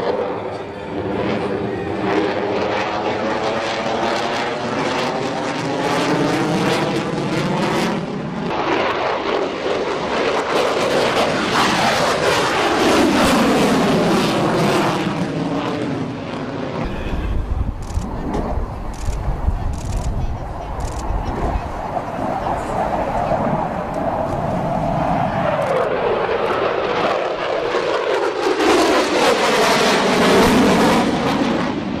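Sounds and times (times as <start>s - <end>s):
jet roar passing overhead: 0.0s - 32.0s.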